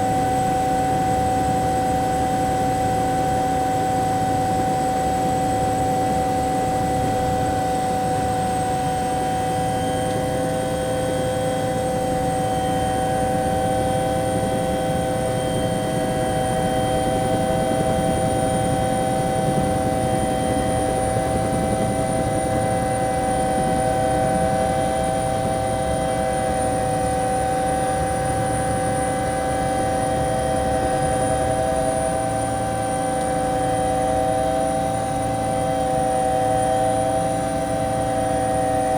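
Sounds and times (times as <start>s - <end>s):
helicopter engines and rotor: 0.0s - 38.9s
high turbine whine: 0.0s - 38.9s.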